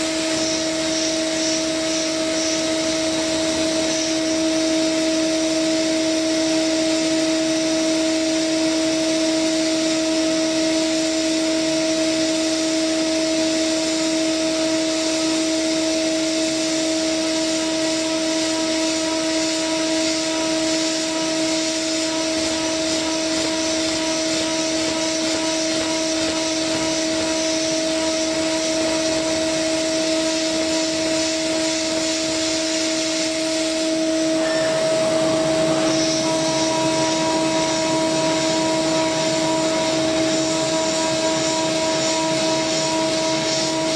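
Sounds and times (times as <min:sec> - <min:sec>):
milling machine cutting metal: 0:00.0 - 0:43.9.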